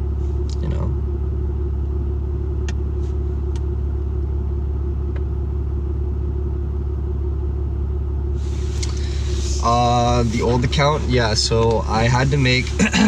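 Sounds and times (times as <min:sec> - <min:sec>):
truck engine rumble from cab: 0:00.0 - 0:13.0.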